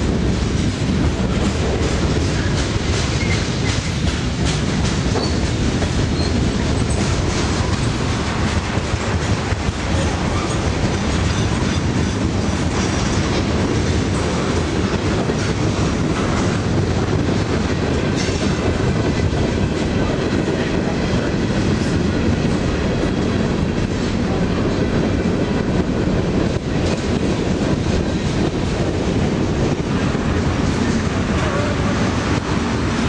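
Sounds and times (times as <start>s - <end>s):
steel wheels running on rails: 0.0s - 33.0s.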